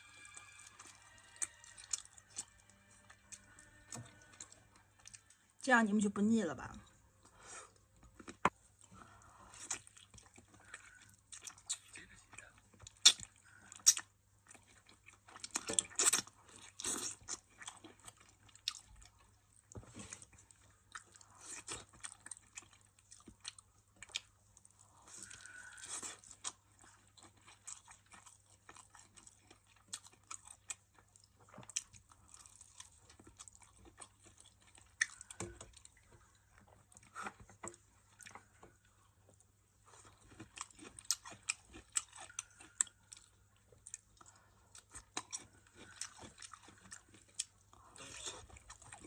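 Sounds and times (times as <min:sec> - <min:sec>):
person chewing and crunching food: 0:00.0 - 0:05.6, 0:06.6 - 0:49.0.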